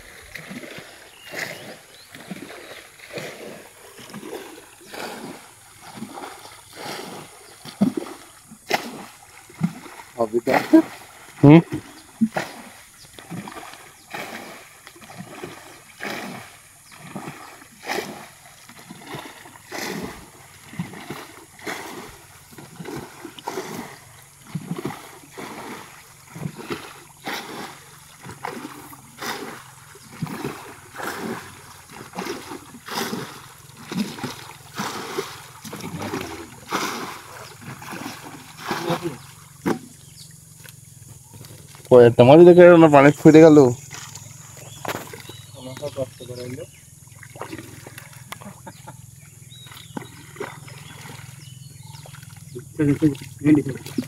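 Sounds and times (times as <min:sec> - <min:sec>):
muddy water pouring and gurgling: 0:00.0 - 0:54.0
water splashing and sloshing: 0:00.0 - 0:54.0.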